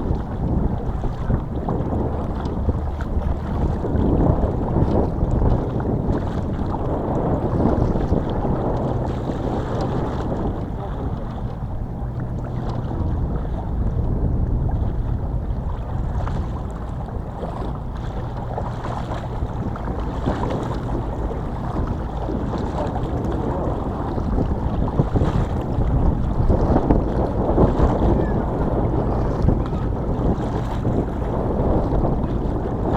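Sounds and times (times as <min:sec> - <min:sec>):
boat engine humming: 0:00.0 - 0:32.9
water rushing: 0:00.0 - 0:32.9
wind on microphone: 0:00.0 - 0:32.9.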